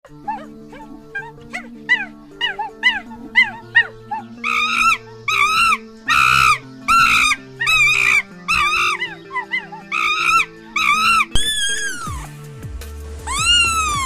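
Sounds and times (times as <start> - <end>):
background music: 0.0 - 14.0
animal whining calls: 0.1 - 12.4, 13.2 - 14.0
animal yipping: 0.1 - 12.4, 13.2 - 14.0.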